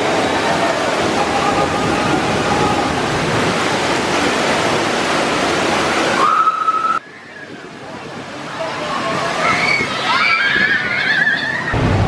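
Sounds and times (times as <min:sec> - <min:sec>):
water rushing and falling: 0:00.0 - 0:12.0.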